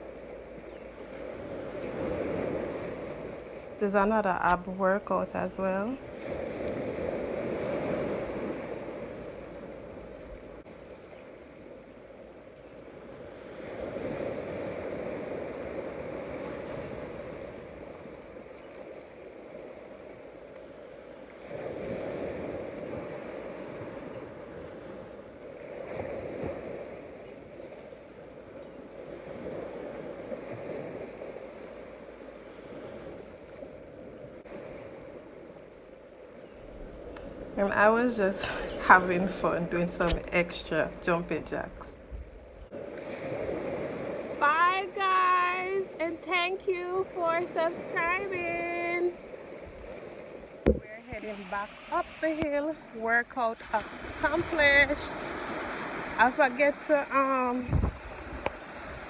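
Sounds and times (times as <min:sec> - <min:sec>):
ocean surf washing on beach: 0:00.0 - 0:59.0.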